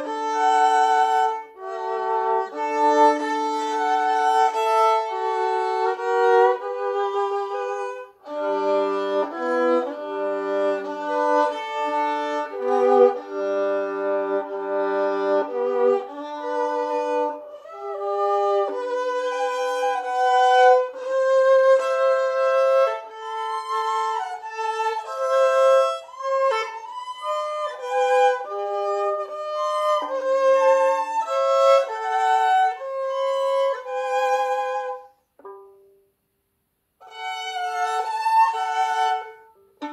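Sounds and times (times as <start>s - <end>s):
solo violin melody: 0.0s - 36.0s, 37.0s - 39.9s.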